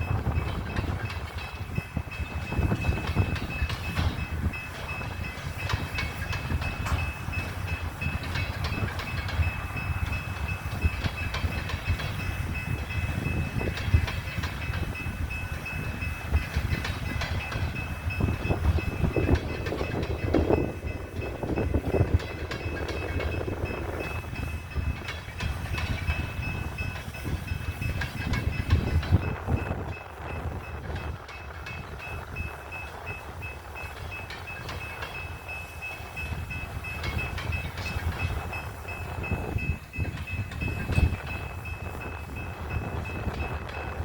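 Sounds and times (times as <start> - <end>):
train cars rumbling: 0.0 - 44.0
wheel clicks over rail joints: 0.1 - 44.0.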